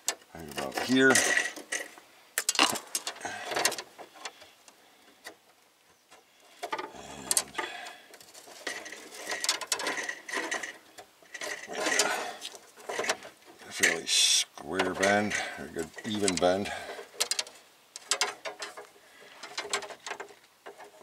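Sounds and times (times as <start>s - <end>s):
metal tube clicking and rattling: 0.0s - 4.4s, 6.6s - 21.0s.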